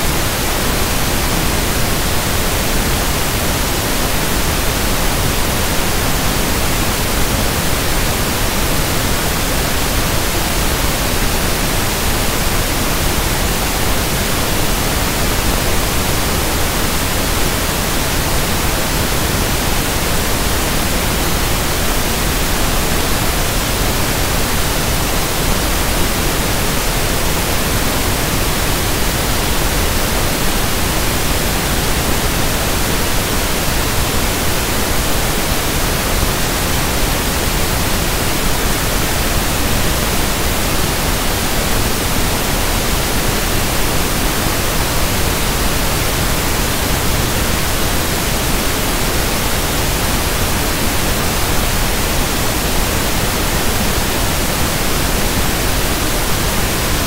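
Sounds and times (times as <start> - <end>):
pink noise hiss: 0.0 - 57.0.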